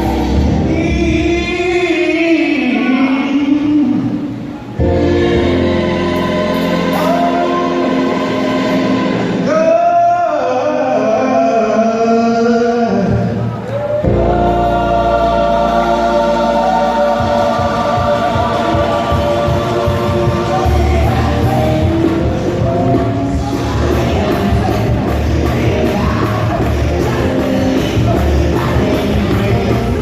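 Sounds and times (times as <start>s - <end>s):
instrumental accompaniment with bass: 0.0s - 10.2s, 12.4s - 30.0s
choir singing gospel: 0.0s - 30.0s.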